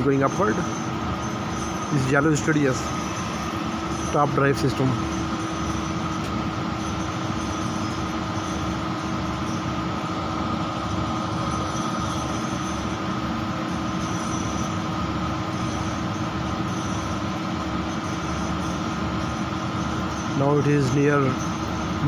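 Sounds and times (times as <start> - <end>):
machinery drone with hum: 0.0 - 22.0.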